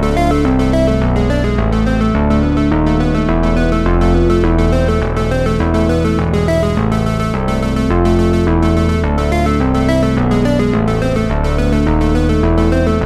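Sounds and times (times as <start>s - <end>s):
synthesizer and keyboard music: 0.0s - 13.0s.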